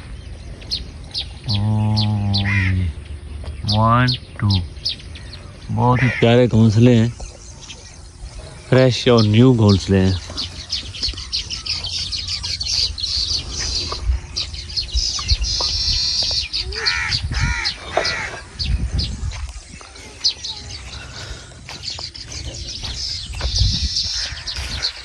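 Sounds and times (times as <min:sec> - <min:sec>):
large bird harsh calls: 0:00.0 - 0:25.0
small birds chirping: 0:00.0 - 0:25.0.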